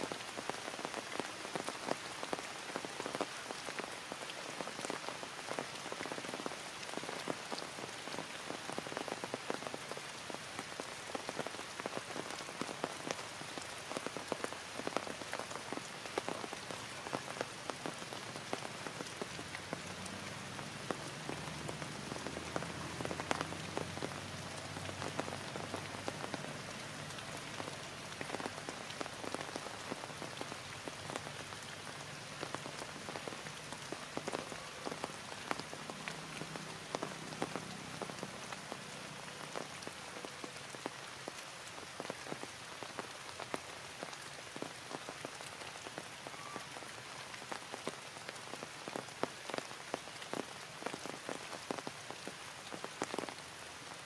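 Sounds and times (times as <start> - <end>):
heavy rain falling: 0.0 - 54.0
raindrops ticking: 0.0 - 54.0.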